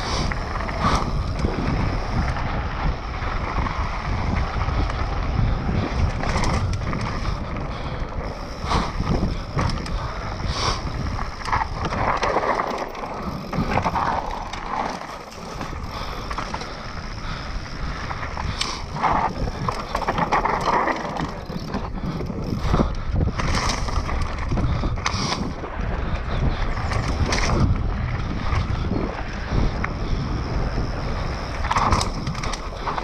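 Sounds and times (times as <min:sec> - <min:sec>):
bike chain and frame rattling: 0:00.0 - 0:33.0
bike tyres rolling over dirt: 0:00.0 - 0:33.0
wind on microphone: 0:00.0 - 0:33.0.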